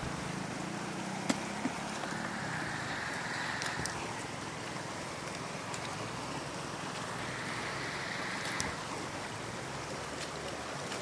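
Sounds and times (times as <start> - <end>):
floodwater running and sloshing: 0.0 - 11.0
water splashing: 0.0 - 11.0.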